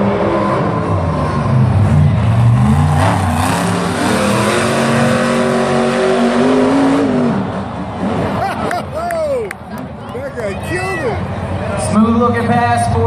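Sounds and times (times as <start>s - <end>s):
monster truck engines at full throttle: 0.0s - 13.0s.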